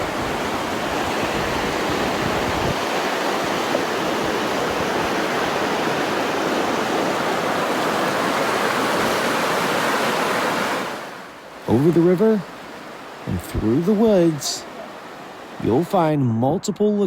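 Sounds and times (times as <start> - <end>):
rushing creek water: 0.0 - 15.8.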